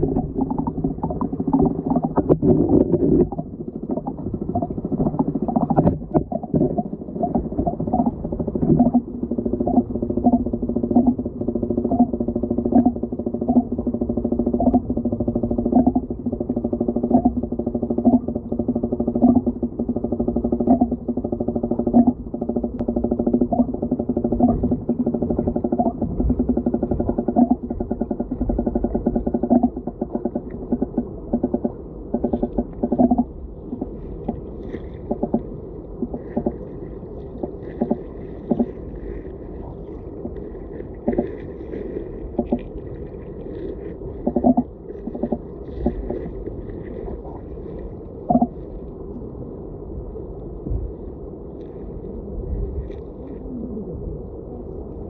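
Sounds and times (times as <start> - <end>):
underwater knocks and clicks: 0.0 - 48.6, 50.6 - 51.0
muffled underwater river rush: 0.0 - 55.0.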